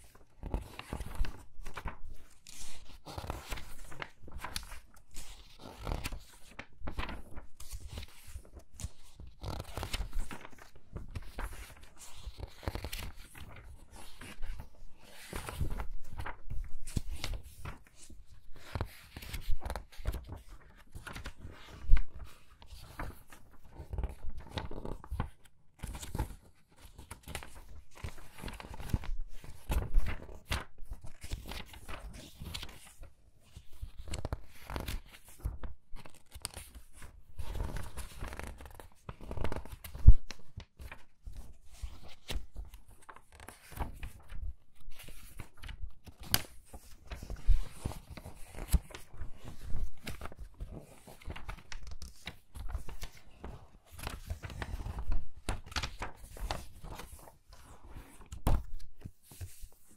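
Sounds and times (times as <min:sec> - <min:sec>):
magazine pages turning: 0:00.1 - 0:59.9.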